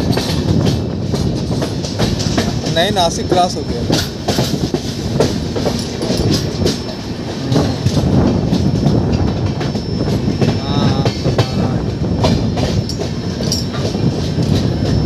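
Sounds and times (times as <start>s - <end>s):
train wheels rumbling: 0.0s - 15.0s
wheels clacking over rail joints: 0.0s - 15.0s.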